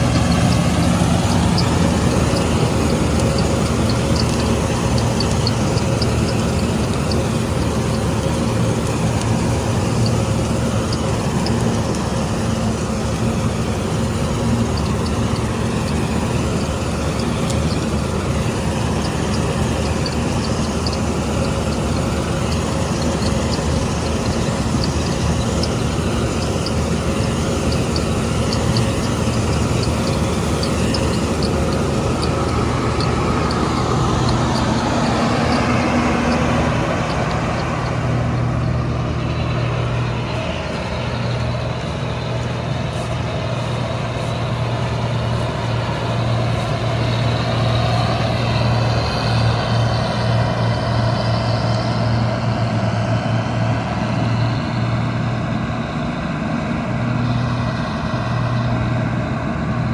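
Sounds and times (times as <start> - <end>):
faint regular ticking: 0.0 - 52.7
combine harvester droning: 0.0 - 59.9.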